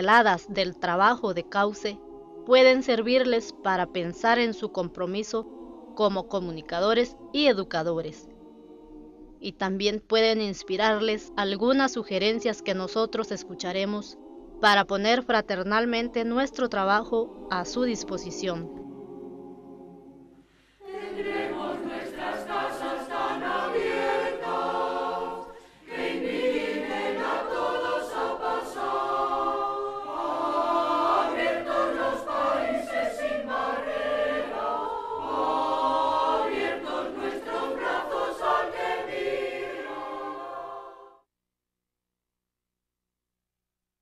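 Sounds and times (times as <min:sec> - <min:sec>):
choir singing: 0:00.0 - 0:09.4, 0:10.5 - 0:41.2.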